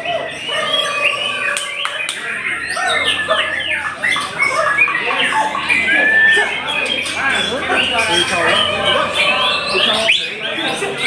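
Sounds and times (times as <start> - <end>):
songbirds singing whistled phrases: 0.0 - 11.0.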